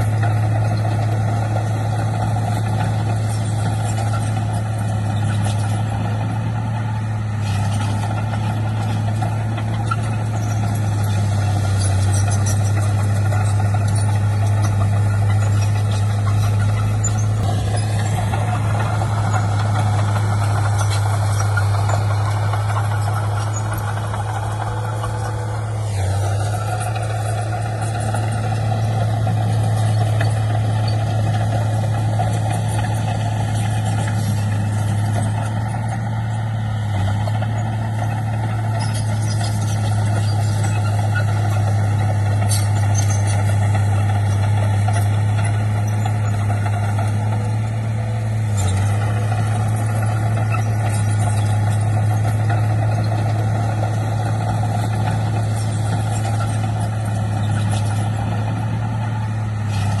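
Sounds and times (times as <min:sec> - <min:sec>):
diesel engine droning: 0:00.0 - 1:00.0.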